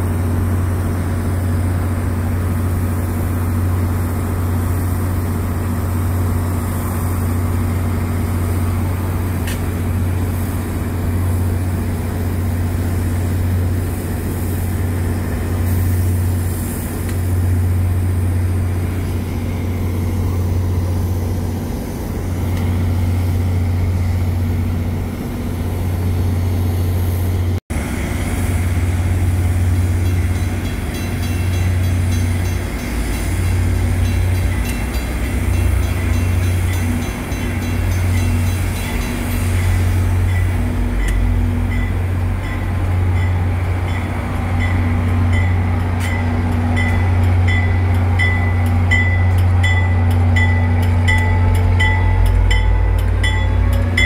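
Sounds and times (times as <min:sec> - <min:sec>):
diesel locomotives idling: 0:00.0 - 0:54.0.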